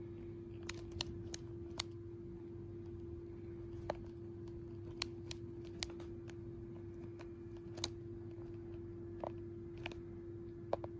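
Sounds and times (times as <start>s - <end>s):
steady low hum: 0.0s - 10.9s
cockatiel clicking: 0.5s - 2.0s, 2.8s - 10.9s.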